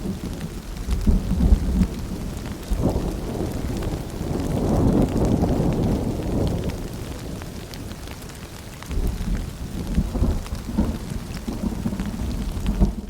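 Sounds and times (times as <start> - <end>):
distant thunder rumble: 0.0 - 8.2, 8.9 - 13.0
rain pattering and dripping: 0.0 - 13.0.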